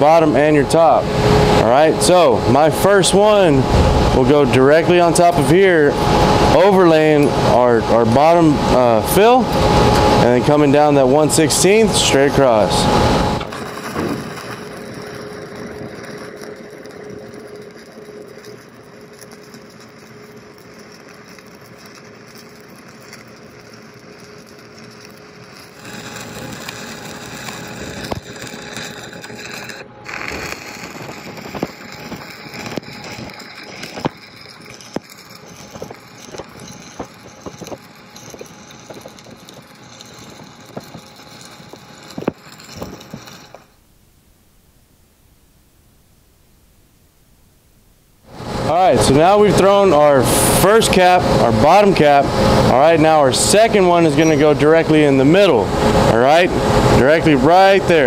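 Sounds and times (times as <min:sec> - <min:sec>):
welding arc crackling: 0:00.0 - 0:58.0.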